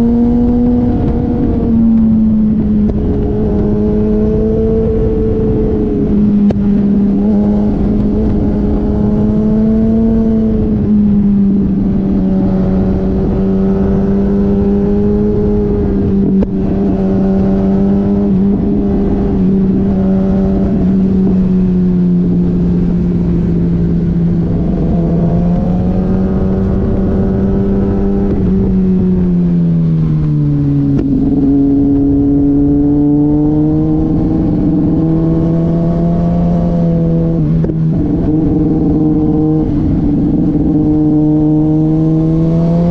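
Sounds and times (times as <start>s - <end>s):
motorcycle engine at high revs: 0.0s - 42.9s
wind noise rushing: 0.0s - 42.9s.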